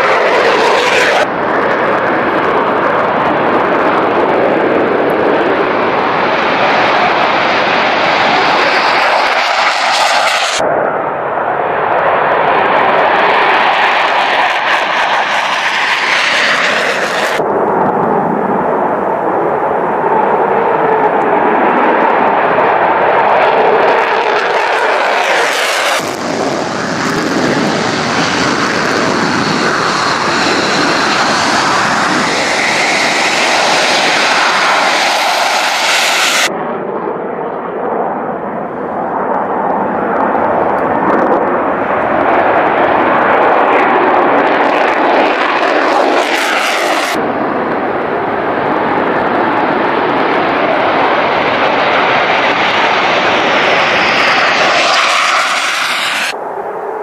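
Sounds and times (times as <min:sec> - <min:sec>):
jet taking off: 0:00.0 - 0:57.0
jet taxiing with high whine: 0:00.0 - 0:57.0.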